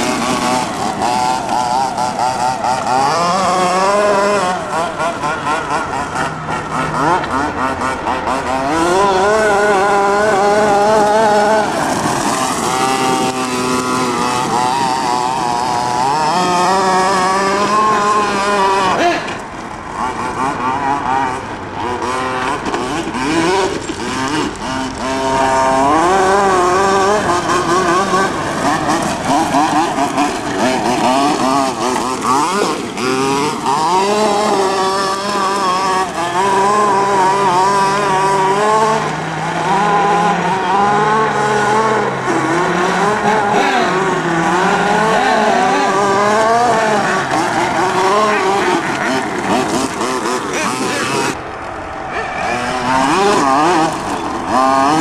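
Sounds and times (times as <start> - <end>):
small two-stroke engine revving: 0.0 - 55.0.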